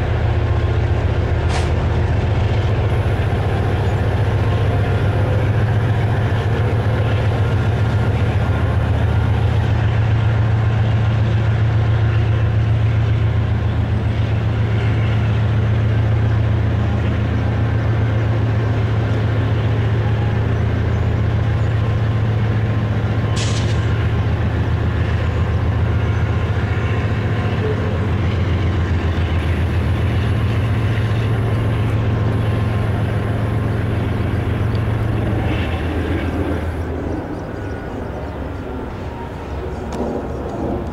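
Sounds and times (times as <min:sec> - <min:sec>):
diesel locomotives droning: 0:00.0 - 0:40.9.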